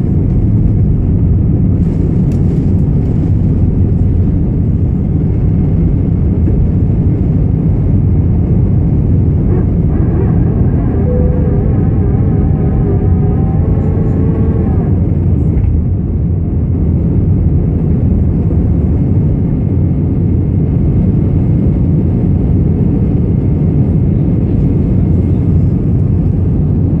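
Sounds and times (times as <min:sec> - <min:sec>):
jet engine roar: 0:00.0 - 0:27.0
steady whine: 0:00.0 - 0:27.0.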